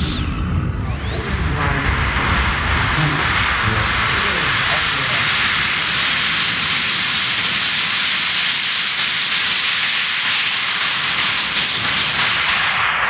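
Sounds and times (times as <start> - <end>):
model jet turbine hissing: 0.0 - 13.0.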